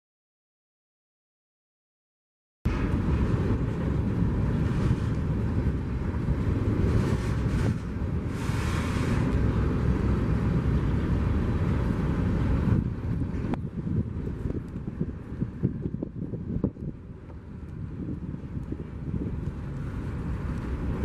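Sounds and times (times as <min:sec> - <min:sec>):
passing train rumble: 0:02.7 - 0:21.0
wind buffeting microphone: 0:02.7 - 0:21.0.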